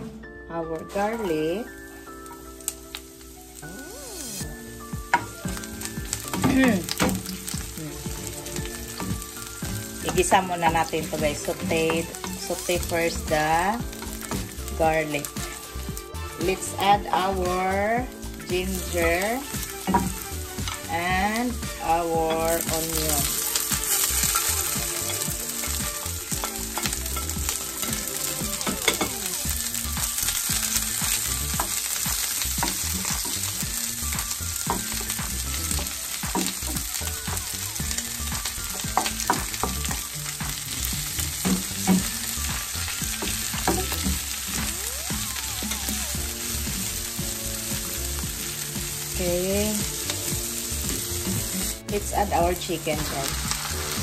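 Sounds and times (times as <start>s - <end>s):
food sizzling in oil: 0.7s - 54.0s.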